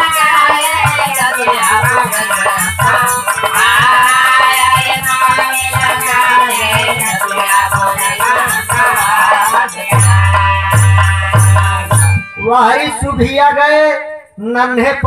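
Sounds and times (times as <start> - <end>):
fast jingling rattle beat: 0.0 - 13.4.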